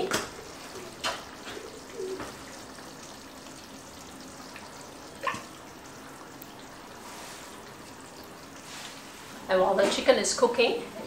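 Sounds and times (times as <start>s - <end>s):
curry bubbling in wok: 0.0s - 9.6s.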